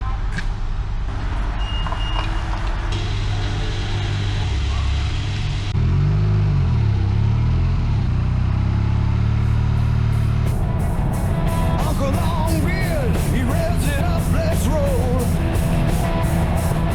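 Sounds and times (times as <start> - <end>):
road noise: 0.0 - 16.9
vehicle engine running: 2.4 - 16.9.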